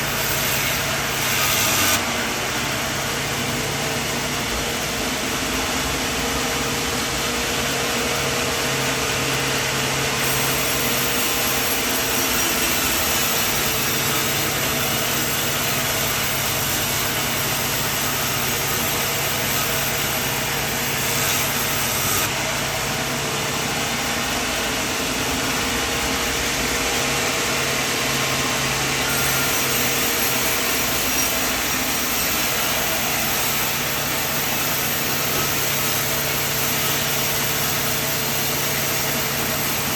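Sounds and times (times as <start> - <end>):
sawmill cutting wood: 0.0 - 39.9.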